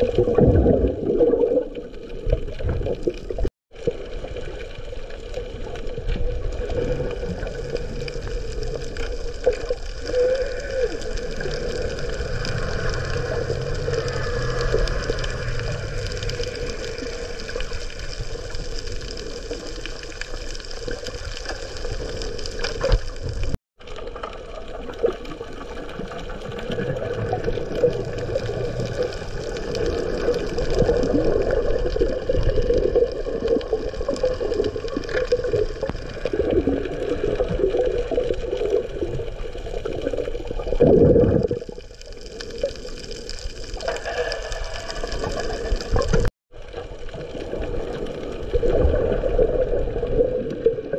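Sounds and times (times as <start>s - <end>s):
muffled underwater water wash: 0.0s - 50.9s.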